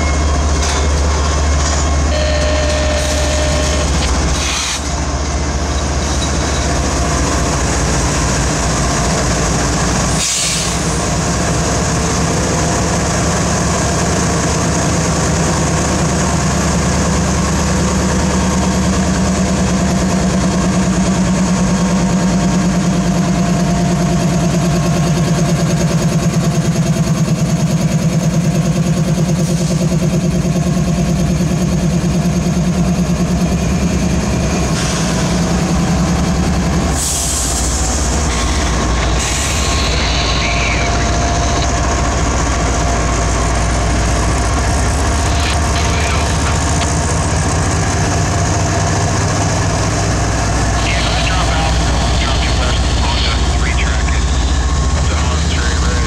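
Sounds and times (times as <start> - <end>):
diesel locomotive engine throbbing: 0.0 - 56.0.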